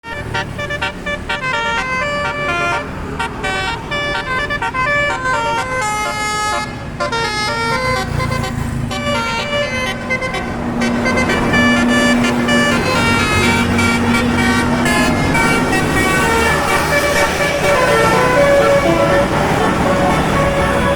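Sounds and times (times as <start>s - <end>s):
vehicle musical horn melody: 0.0s - 20.9s.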